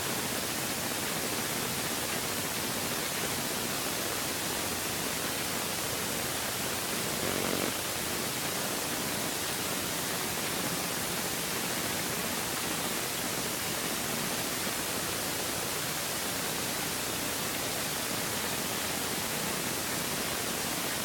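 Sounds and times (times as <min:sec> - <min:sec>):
steady static hiss: 0:00.0 - 0:21.0.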